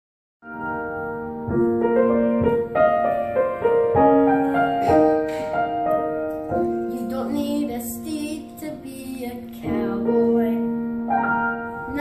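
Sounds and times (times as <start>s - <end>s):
piano chords and melody: 0.4s - 12.0s.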